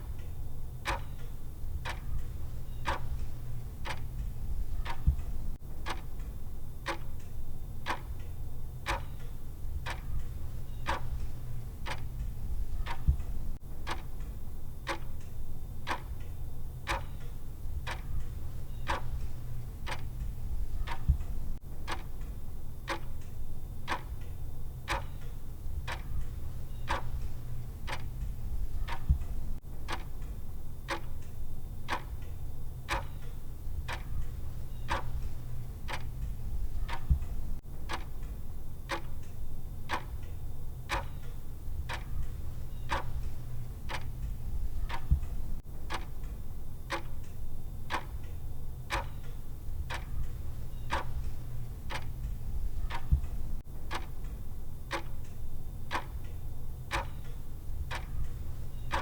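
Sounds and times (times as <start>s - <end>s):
clock ticking: 0.0s - 59.0s
low steady hum: 0.0s - 59.0s.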